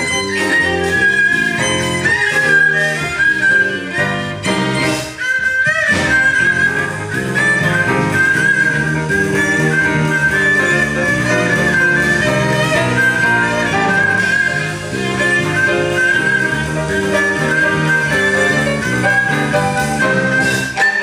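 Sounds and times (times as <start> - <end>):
cello: 0.0 - 21.0
haegeum melody with sliding notes: 0.0 - 21.0
piano: 0.0 - 21.0.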